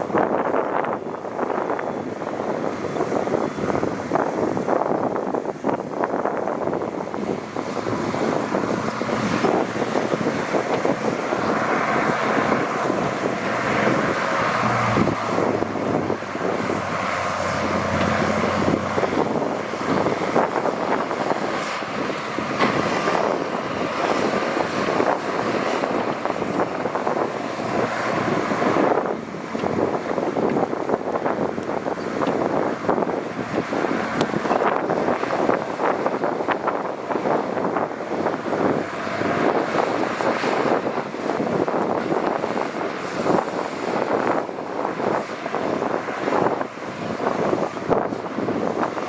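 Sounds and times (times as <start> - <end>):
diesel engine running: 0.0 - 49.0
wind buffeting microphone: 0.0 - 49.0.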